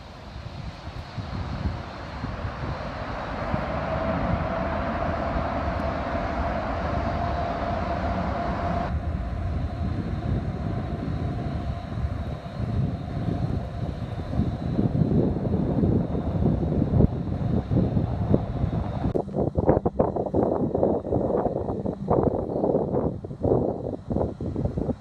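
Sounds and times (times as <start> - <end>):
jet engines roaring: 0.0 - 25.0
wind rumble on microphone: 0.0 - 25.0.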